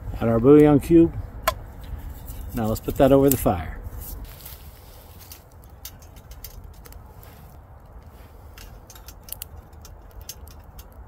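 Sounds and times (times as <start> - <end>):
twig fire crackling and popping: 1.8 - 11.0.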